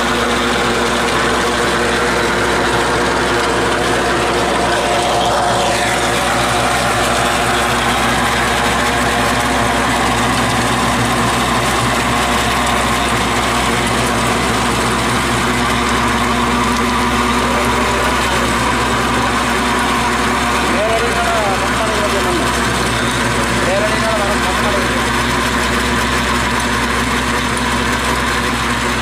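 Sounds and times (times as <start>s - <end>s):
rotary weeder churning soil: 0.0s - 29.0s
tractor engine running: 0.0s - 29.0s.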